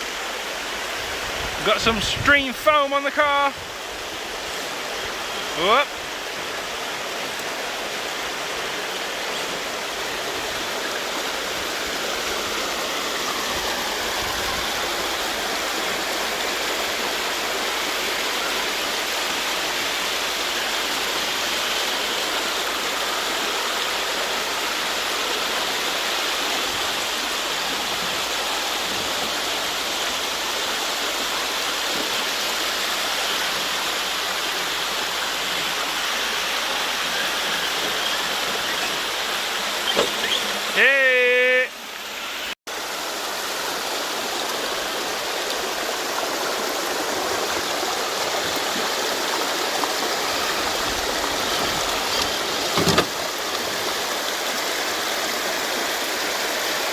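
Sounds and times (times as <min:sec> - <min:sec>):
creek water rushing over stones: 0:00.0 - 0:56.9.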